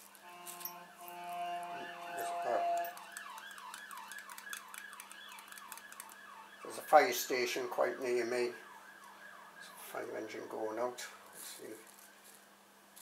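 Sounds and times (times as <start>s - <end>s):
fire engine siren: 0.2s - 12.3s.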